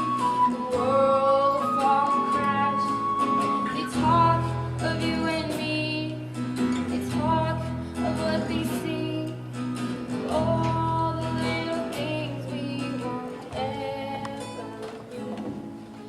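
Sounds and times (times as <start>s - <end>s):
woman singing: 0.0s - 15.4s
acoustic guitar: 0.0s - 16.0s.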